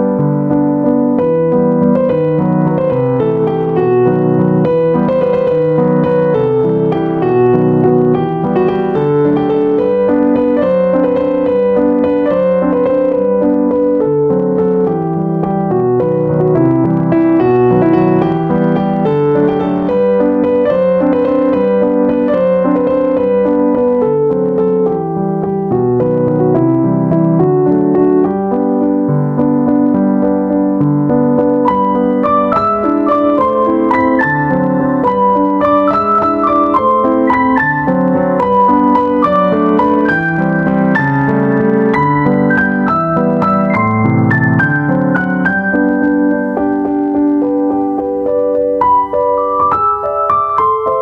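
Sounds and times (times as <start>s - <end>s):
gentle piano music: 0.0s - 51.0s.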